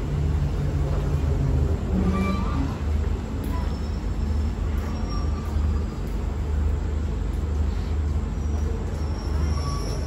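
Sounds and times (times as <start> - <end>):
diesel train engine rumbling: 0.0 - 10.0.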